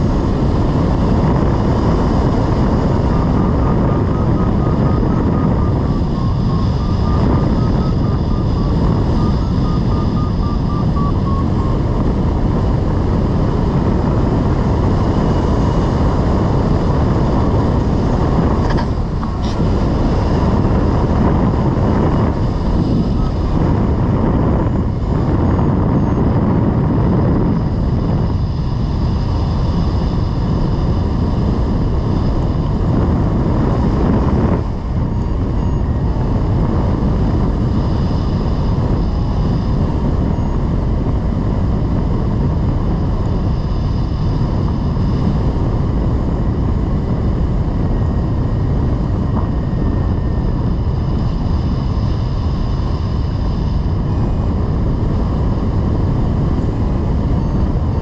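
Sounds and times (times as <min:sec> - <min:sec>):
airflow buffeting microphone: 0:00.0 - 0:58.0.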